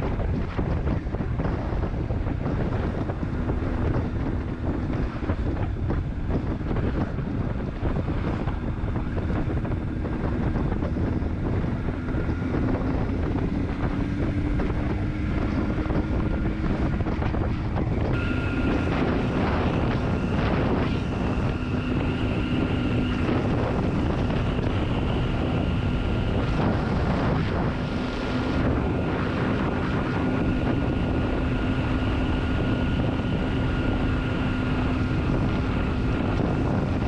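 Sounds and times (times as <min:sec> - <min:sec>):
motorcycle engine: 0:00.0 - 0:37.0
steady high whine: 0:00.0 - 0:37.0
wind buffeting microphone: 0:00.0 - 0:37.0.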